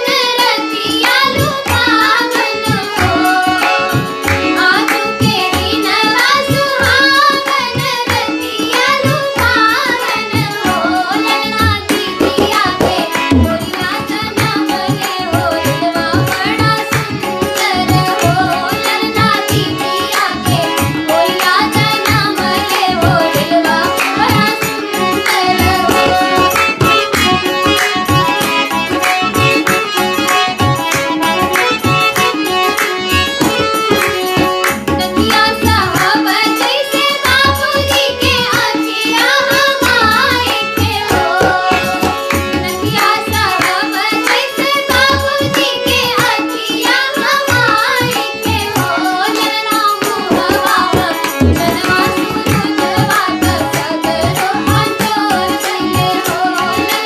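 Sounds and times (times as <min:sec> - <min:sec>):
girl singing: 0:00.0 - 0:28.2, 0:35.1 - 0:57.0
boy singing: 0:00.0 - 0:57.0
harmonium notes: 0:00.0 - 0:57.0.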